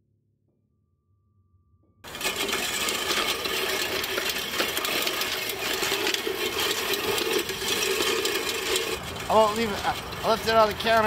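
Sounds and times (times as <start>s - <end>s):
reel mower blades rattling: 2.0s - 11.0s.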